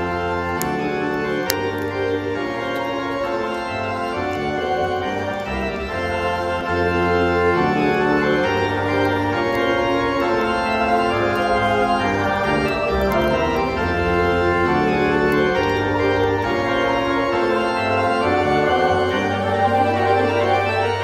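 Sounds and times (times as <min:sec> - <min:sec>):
organ-like chords: 0:00.0 - 0:21.0.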